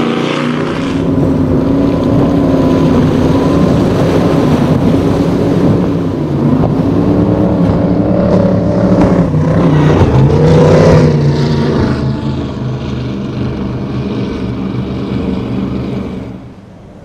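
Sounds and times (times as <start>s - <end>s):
speedboat engines at high speed: 0.0s - 17.0s.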